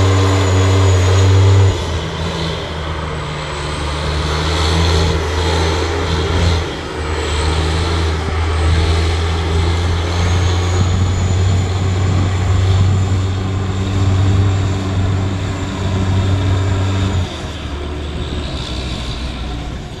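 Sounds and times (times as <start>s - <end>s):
heavy truck diesel engine drone: 0.0s - 20.0s.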